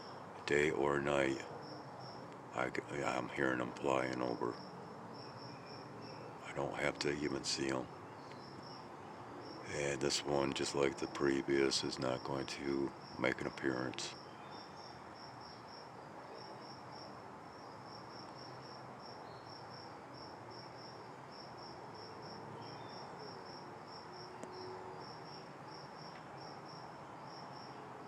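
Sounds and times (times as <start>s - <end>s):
cricket chirping: 0.0s - 28.0s
faint background hiss: 0.0s - 28.0s.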